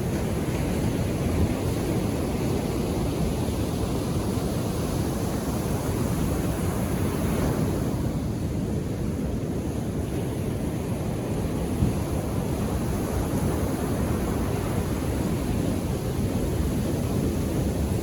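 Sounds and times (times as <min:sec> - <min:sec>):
ocean surf washing onto shore: 0:00.0 - 0:18.0.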